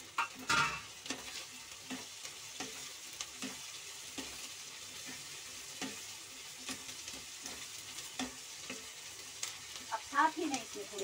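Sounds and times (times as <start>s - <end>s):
faint sizzle: 0.0s - 11.0s
spatula scraping pan: 0.1s - 9.9s.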